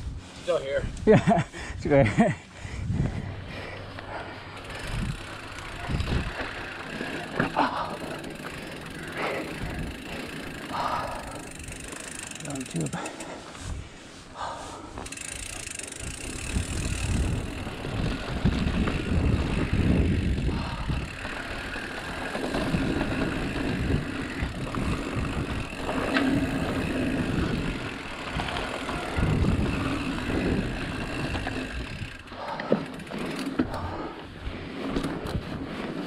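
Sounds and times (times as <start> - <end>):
bike tyres rolling on dirt: 0.0 - 36.0.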